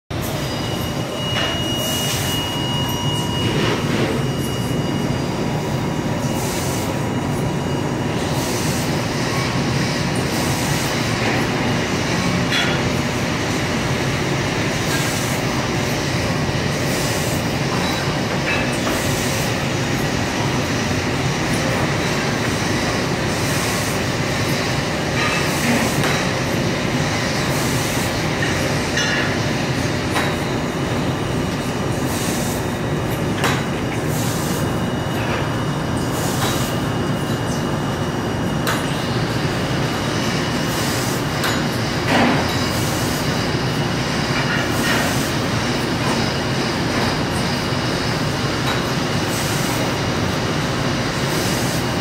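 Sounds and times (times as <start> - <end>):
laser cutting machine running: 0.1 - 52.0.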